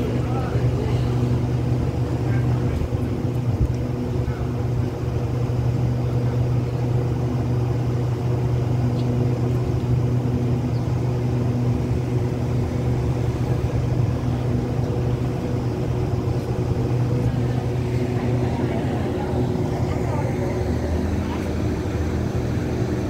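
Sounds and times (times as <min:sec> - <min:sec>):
idling diesel train hum: 0:00.0 - 0:23.0.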